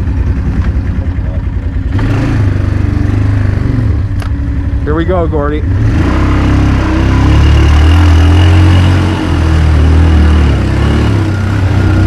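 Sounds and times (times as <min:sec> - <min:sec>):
atv engine running hard: 0:00.0 - 0:12.0.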